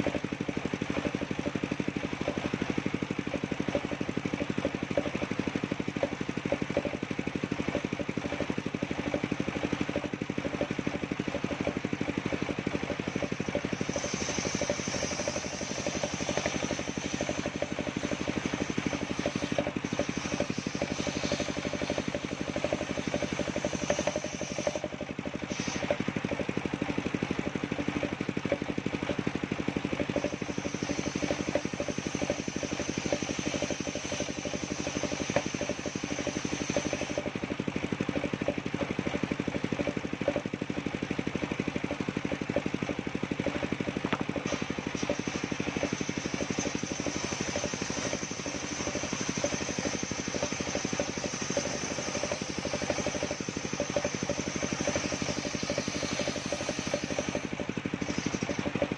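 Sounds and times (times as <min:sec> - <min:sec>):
sawmill engine running: 0:00.0 - 0:58.9.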